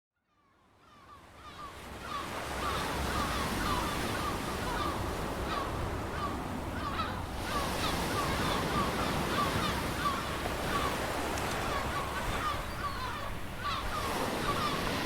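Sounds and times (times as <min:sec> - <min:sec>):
ocean surf washing: 0:02.1 - 0:15.0.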